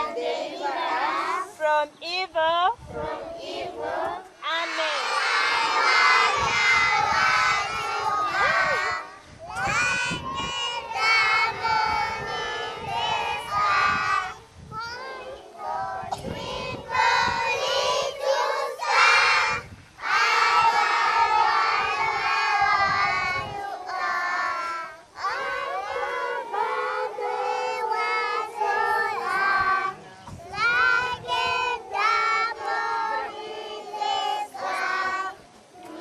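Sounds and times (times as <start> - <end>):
children singing in unison: 0.0 - 1.5, 2.9 - 36.0.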